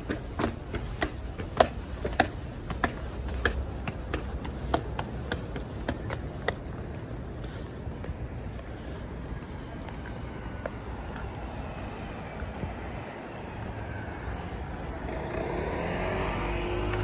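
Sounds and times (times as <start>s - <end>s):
footsteps on stone and pavement: 0.0s - 15.5s
city traffic rumble: 0.0s - 17.0s.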